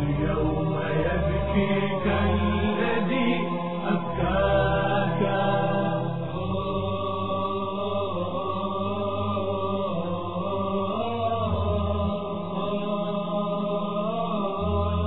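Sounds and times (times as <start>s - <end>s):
steady low drone: 0.0s - 15.0s
voice chanting a lament: 0.0s - 15.0s.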